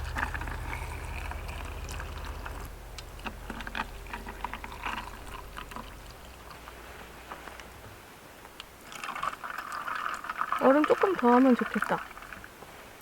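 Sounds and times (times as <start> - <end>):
drink pouring into a cup: 0.0 - 6.8, 8.8 - 12.5.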